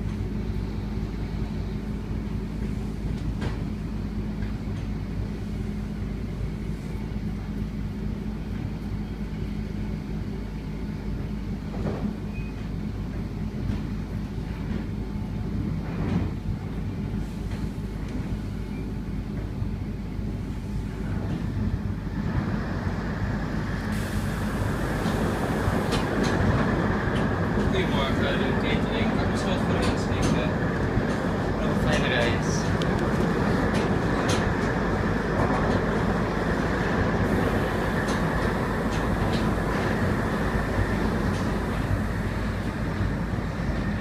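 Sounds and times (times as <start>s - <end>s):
train rumble inside carriage: 0.0s - 44.0s.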